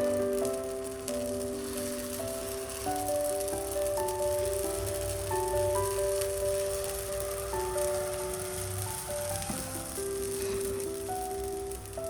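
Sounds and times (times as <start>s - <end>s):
soft instrumental melody: 0.0s - 12.0s.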